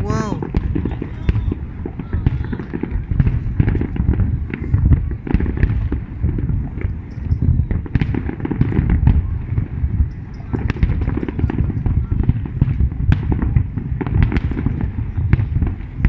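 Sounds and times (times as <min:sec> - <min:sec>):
fireworks booming: 0:00.0 - 0:16.0
fireworks cracks and pops: 0:00.0 - 0:16.0.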